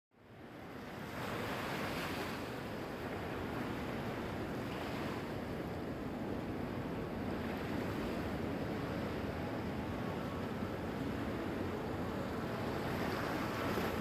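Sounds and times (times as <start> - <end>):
ocean waves rushing: 0.9 - 14.0.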